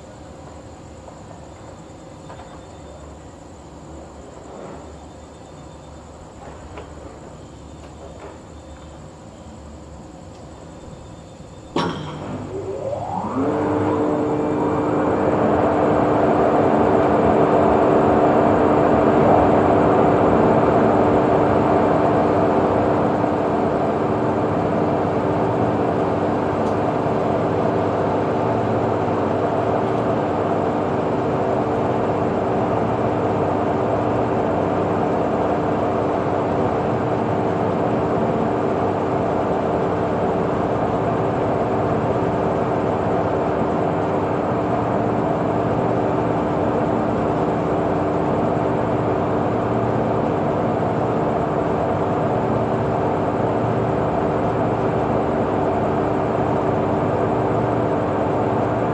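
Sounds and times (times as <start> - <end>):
electric locomotive idling hum: 0.0 - 58.9.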